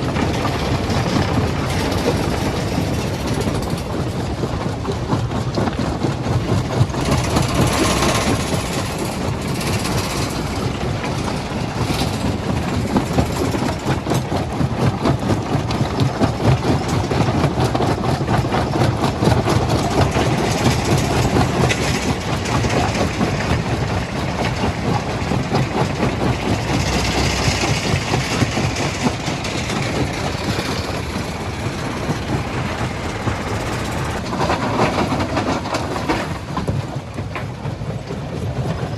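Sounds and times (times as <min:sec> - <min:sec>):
machine drone: 0:00.0 - 0:05.8, 0:06.8 - 0:14.2, 0:19.8 - 0:38.7
rock rattling through crusher: 0:00.0 - 0:37.6.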